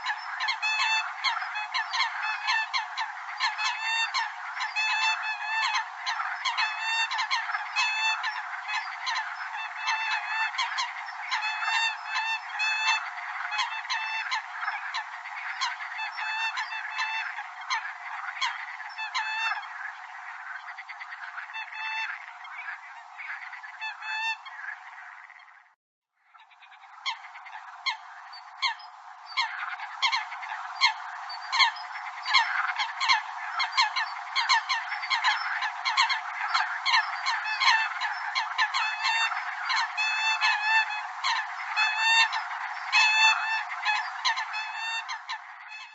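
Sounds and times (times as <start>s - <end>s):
coots calling: 0.0s - 25.5s, 26.3s - 45.9s.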